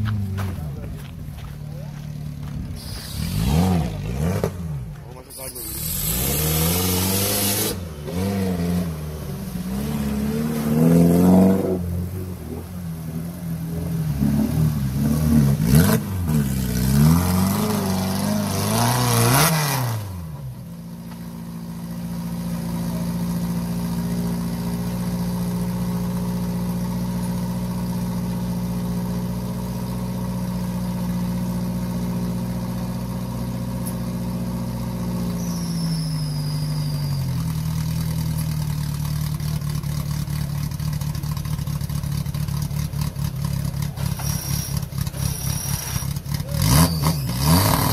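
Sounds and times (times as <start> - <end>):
engine revving and idling: 0.0 - 47.9.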